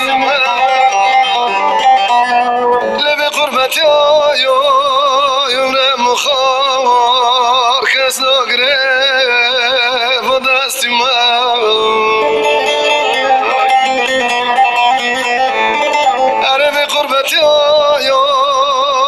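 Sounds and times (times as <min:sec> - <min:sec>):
instrumental accompaniment: 0:00.0 - 0:19.0
person singing with vibrato: 0:00.0 - 0:19.0.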